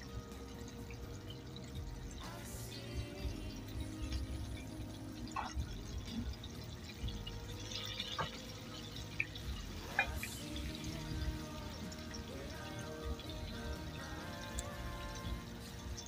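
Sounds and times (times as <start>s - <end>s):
chicken deep-frying in oil: 0.0s - 16.0s
oil popping: 0.0s - 16.0s.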